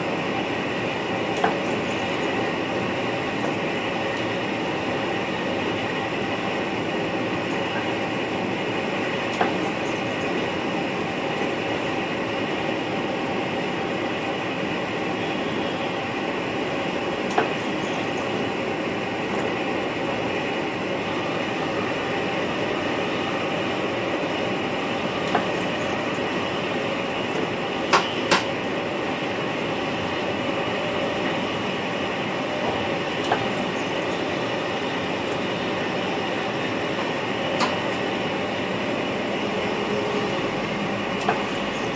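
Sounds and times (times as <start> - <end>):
train cab running noise: 0.0 - 41.9.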